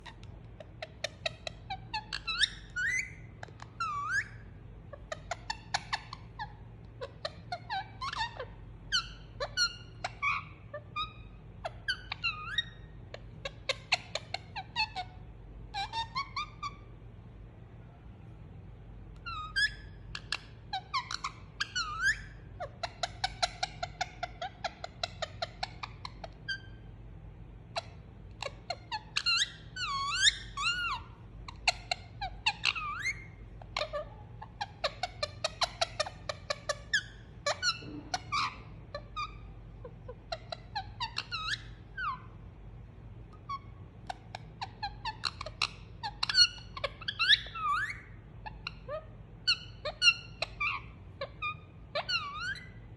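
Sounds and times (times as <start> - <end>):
parakeet squeaks and chirps: 0.0 - 17.1, 18.2 - 52.9.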